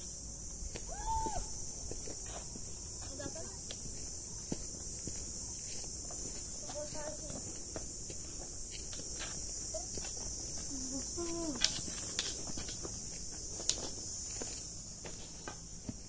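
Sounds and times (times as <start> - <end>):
footsteps on dry path: 0.0 - 16.0
insects droning: 0.0 - 16.0.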